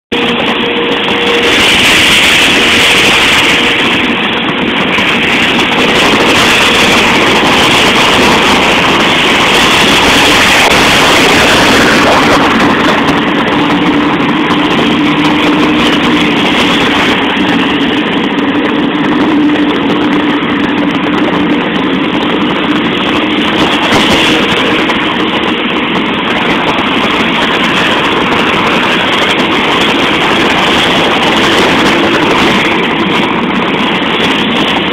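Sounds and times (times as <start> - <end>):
road traffic: 0.1 - 34.9
vehicle engine hum: 0.1 - 34.9.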